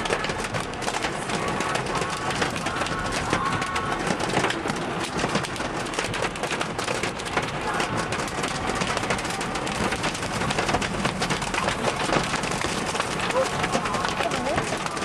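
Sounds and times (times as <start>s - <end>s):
hail pelting a car: 0.0s - 15.0s.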